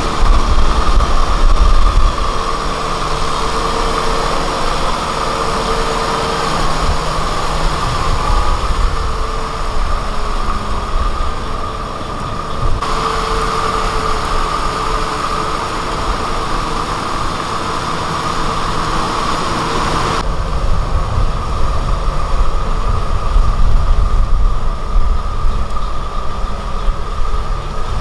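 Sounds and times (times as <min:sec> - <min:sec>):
rotavator churning mud: 0:00.0 - 0:28.0
tractor diesel engine under load: 0:00.0 - 0:28.0.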